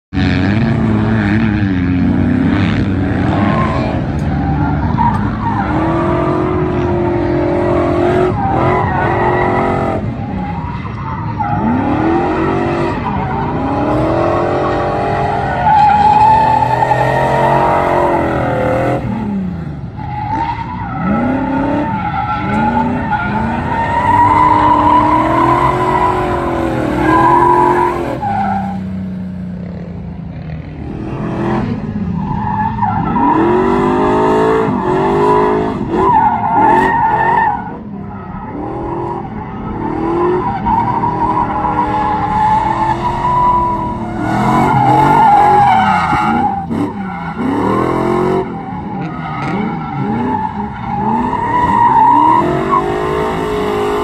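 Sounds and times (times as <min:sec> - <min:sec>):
car engine revving: 0:00.1 - 0:54.0.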